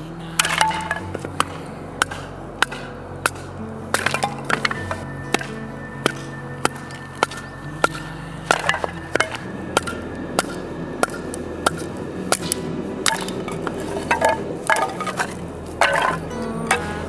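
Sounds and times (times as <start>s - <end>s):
background music with sustained notes: 0.0s - 17.0s.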